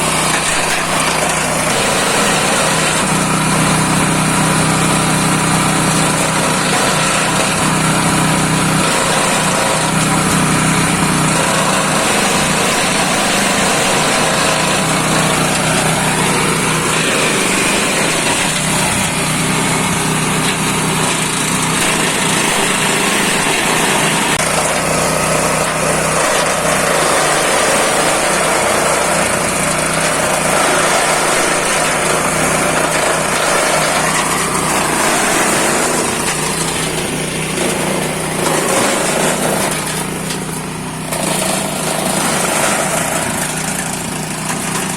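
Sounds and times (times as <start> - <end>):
chopper machine engine running: 0.0 - 44.9.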